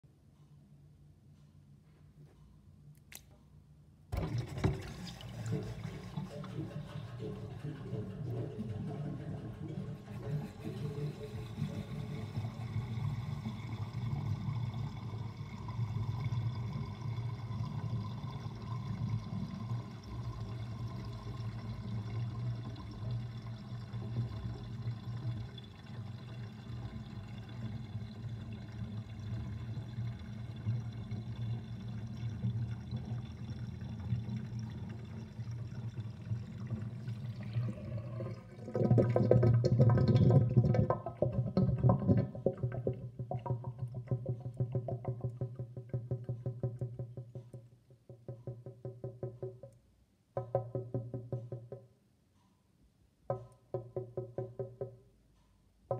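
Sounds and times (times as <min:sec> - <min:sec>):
water gurgling in sink drain: 0:04.1 - 0:49.8.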